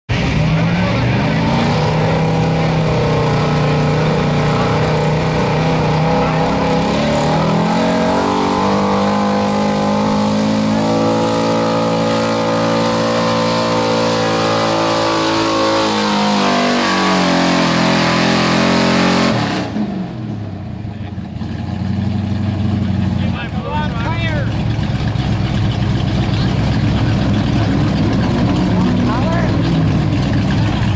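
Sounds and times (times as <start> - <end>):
pickup engine at high revs: 0.1 - 30.9.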